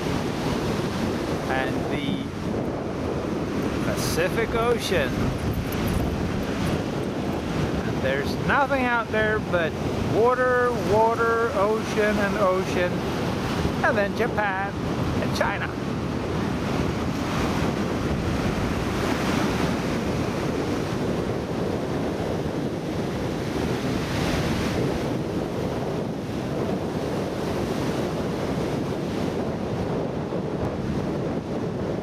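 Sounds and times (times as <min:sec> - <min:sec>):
surf breaking on beach: 0:00.0 - 0:32.0
wind buffeting microphone: 0:00.0 - 0:32.0.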